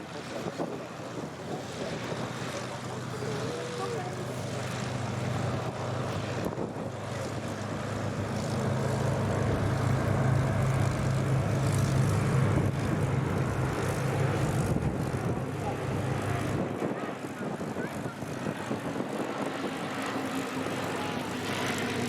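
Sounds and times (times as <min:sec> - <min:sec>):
propeller aircraft droning: 0:00.0 - 0:22.0.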